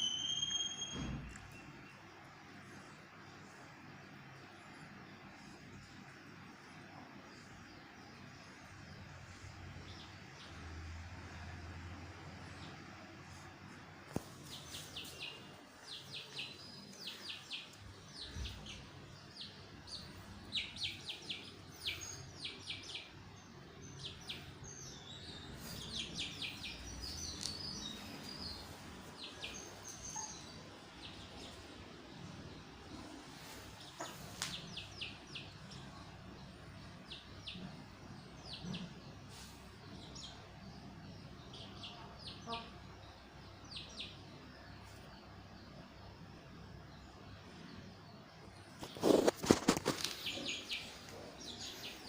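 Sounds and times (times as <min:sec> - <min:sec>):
birds chirping: 0:00.0 - 0:52.0
faint background noise: 0:00.0 - 0:52.0.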